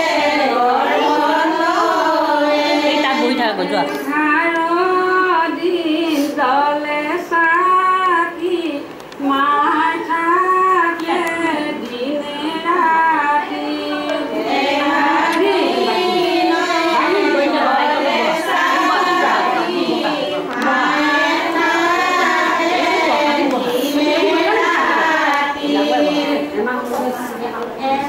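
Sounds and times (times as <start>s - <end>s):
women singing slow melody: 0.0s - 28.0s.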